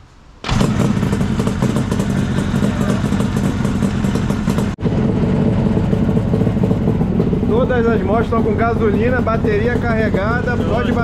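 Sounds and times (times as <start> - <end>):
two-stroke motorcycle engine running: 0.5 - 11.0.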